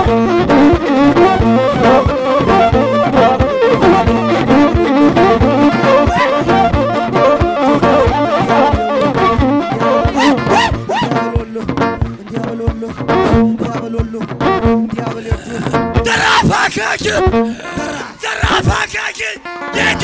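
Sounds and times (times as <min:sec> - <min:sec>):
lyre melody: 0:00.0 - 0:16.2, 0:19.4 - 0:20.0.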